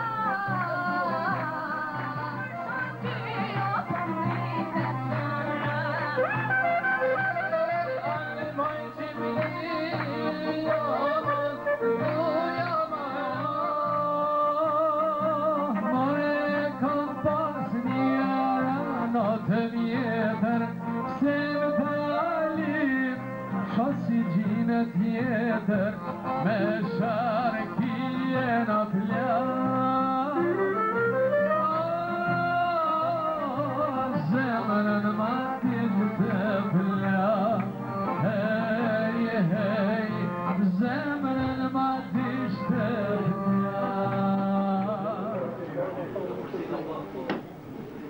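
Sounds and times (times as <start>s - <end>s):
man singing into microphone: 0.0s - 45.7s
accordion: 0.0s - 48.0s
clarinet: 2.2s - 24.6s, 25.2s - 41.7s.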